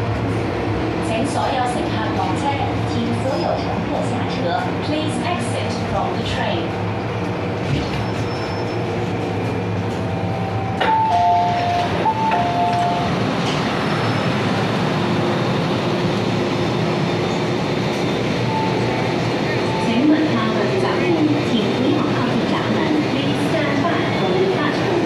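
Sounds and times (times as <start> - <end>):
low hum of train and station: 0.0 - 25.0.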